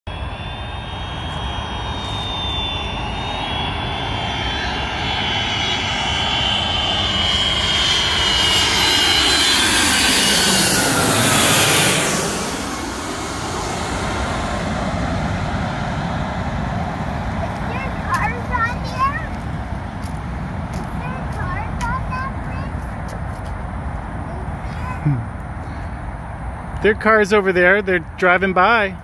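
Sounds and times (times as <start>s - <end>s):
jet airliner passing overhead: 0.1s - 29.0s.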